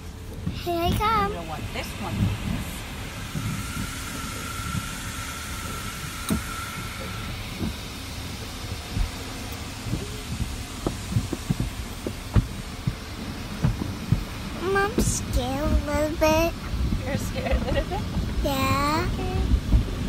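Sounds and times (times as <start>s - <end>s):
car wash low rumble: 0.0s - 20.0s
thin steady whine: 0.0s - 20.0s.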